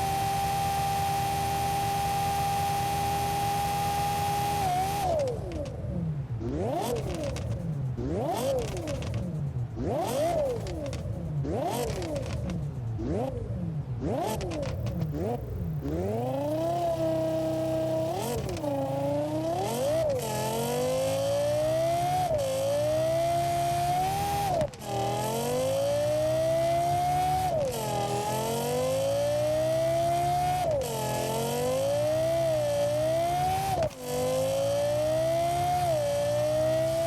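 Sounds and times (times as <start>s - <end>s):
car engine revving: 0.0s - 5.4s, 6.4s - 37.0s.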